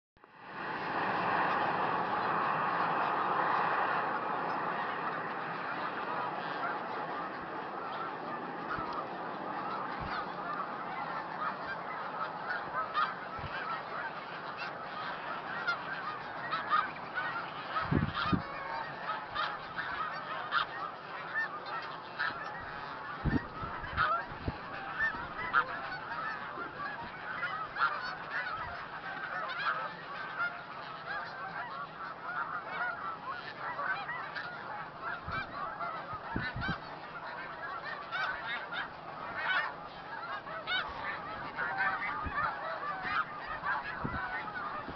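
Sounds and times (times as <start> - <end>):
geese honking and yelping: 0.5 - 44.9.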